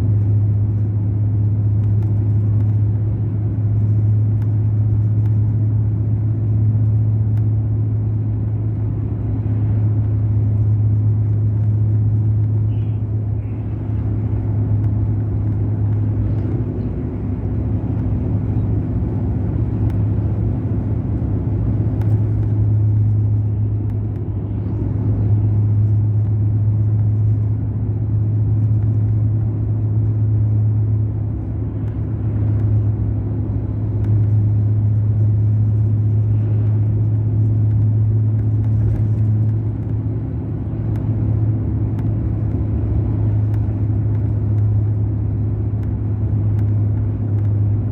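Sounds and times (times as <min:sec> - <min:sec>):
bus diesel engine droning: 0:00.0 - 0:47.9
road noise: 0:00.0 - 0:47.9.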